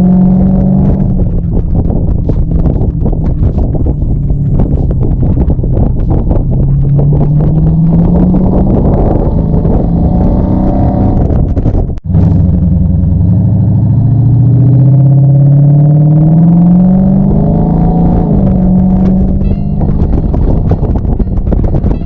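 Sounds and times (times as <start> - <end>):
car engine accelerating: 0.0 - 22.0
car rattling over rough road: 0.0 - 22.0.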